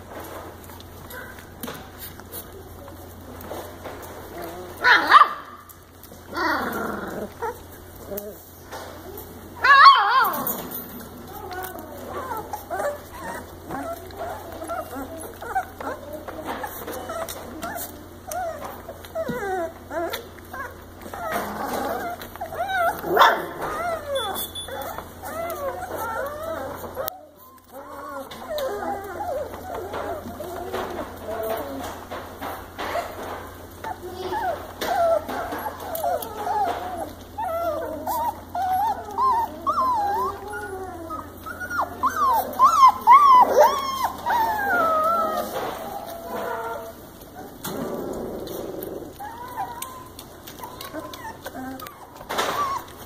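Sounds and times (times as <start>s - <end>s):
puppies whimpering and squealing: 0.0s - 53.0s.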